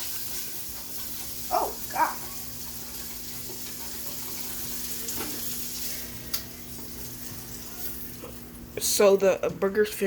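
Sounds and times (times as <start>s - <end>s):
meat sizzling in a pan: 0.0s - 9.1s.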